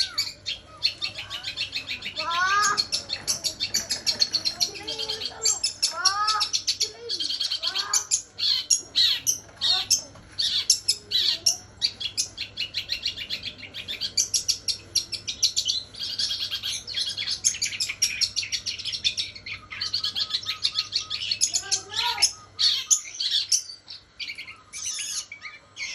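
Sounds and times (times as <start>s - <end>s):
bird chattering song: 0.0s - 25.9s.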